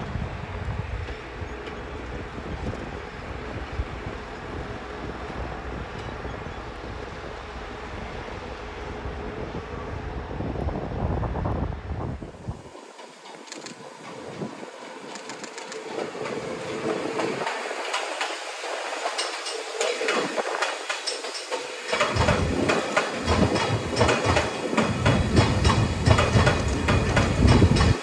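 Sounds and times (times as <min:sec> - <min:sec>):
wheels clicking over rail joints: 0:00.0 - 0:09.8, 0:12.6 - 0:28.0
deep train rumble: 0:00.0 - 0:28.0.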